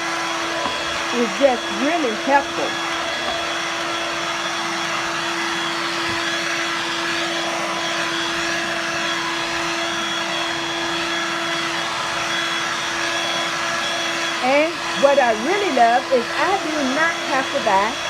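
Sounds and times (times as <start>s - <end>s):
stick vacuum running: 0.0s - 18.0s.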